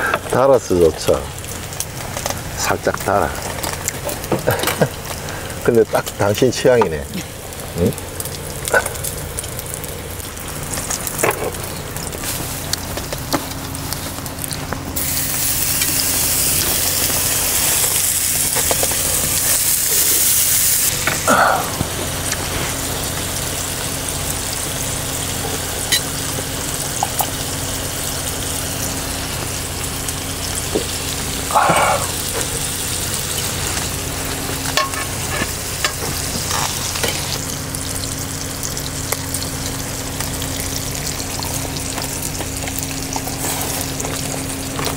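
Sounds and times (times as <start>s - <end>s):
pork belly sizzling on grill: 0.0s - 44.9s.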